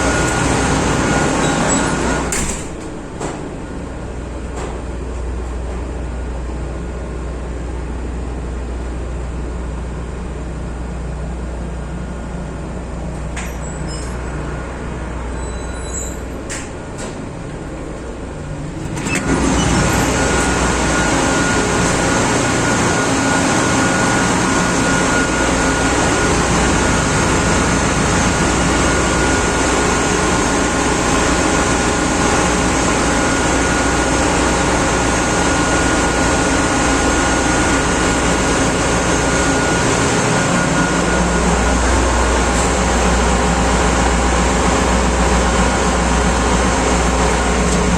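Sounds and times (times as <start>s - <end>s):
engine room machinery humming: 0.0s - 47.9s
loud machinery with high whine: 0.0s - 47.9s.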